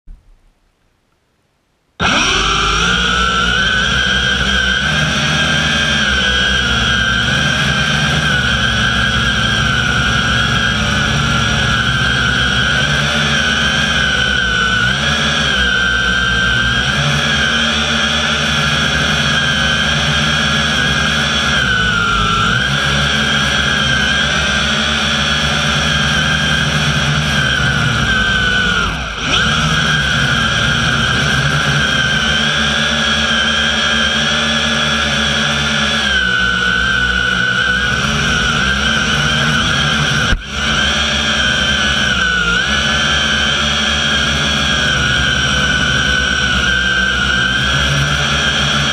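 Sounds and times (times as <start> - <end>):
drone motors whining: 2.0 - 48.9.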